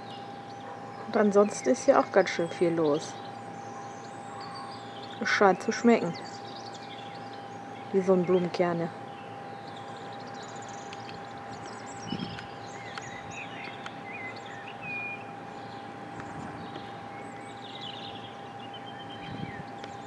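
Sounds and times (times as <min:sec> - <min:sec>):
songbirds chirping: 0:00.0 - 0:20.0
steady outdoor hiss: 0:00.0 - 0:20.0.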